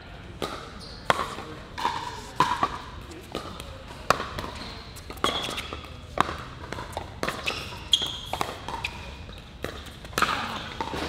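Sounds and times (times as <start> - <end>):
ball bouncing on court: 0.4 - 11.0
sneaker squeaks: 0.5 - 11.0.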